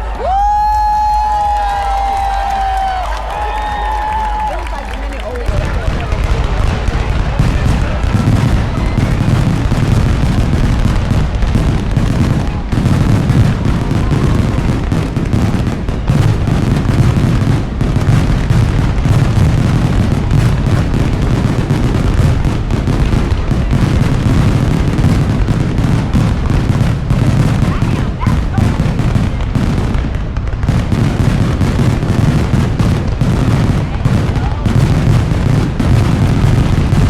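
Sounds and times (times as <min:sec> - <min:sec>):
fireworks exploding: 0:00.0 - 0:37.0.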